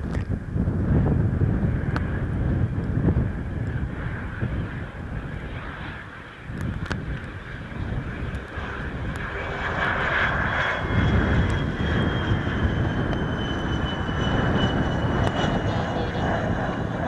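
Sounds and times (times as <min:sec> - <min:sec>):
high engine whine: 0:00.0 - 0:17.0
jet engines rumbling: 0:00.0 - 0:17.0.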